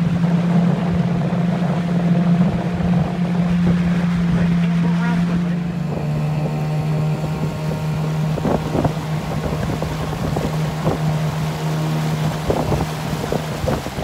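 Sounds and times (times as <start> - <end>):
outboard motor running: 0.0 - 14.0
water splashing against hull: 0.0 - 14.0
wind buffeting microphone: 0.0 - 14.0.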